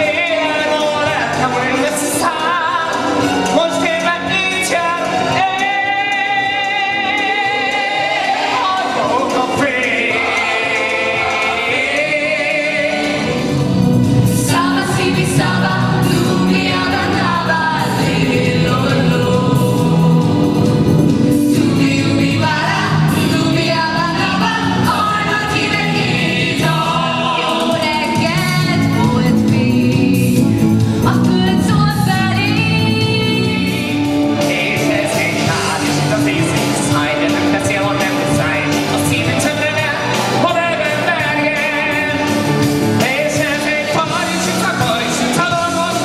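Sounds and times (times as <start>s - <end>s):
voices singing: 0.0s - 30.5s, 31.1s - 46.0s
band accompaniment: 0.0s - 46.0s.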